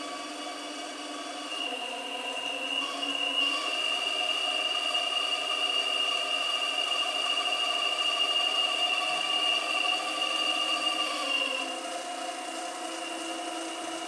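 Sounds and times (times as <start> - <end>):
hydraulic pump whining: 0.0 - 14.0.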